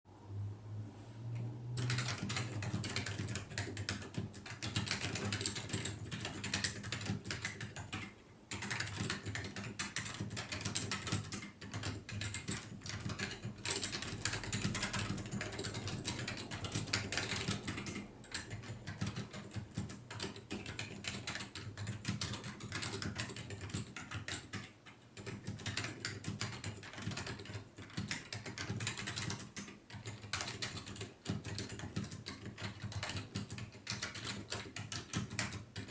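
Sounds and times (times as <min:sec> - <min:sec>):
fast typing on mechanical keyboard: 0:01.8 - 0:35.9.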